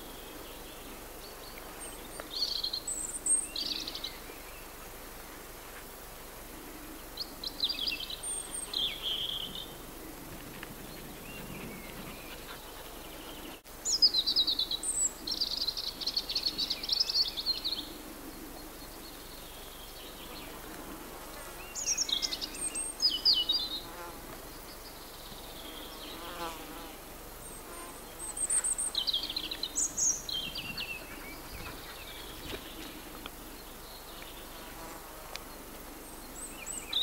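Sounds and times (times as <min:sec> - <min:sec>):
flying insects buzzing: 0:00.0 - 0:37.0.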